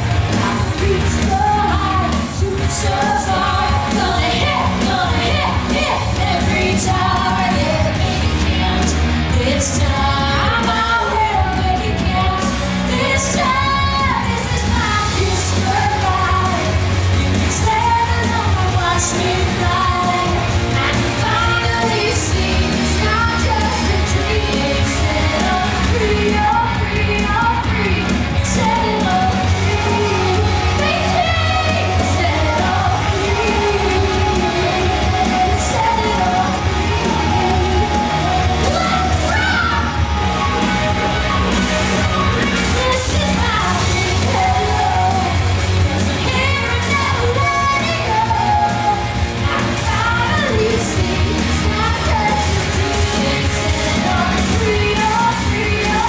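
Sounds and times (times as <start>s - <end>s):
heavy bass and drum beat: 0.0s - 56.0s
rock song over sound system: 0.0s - 56.0s
woman singing: 0.0s - 56.0s.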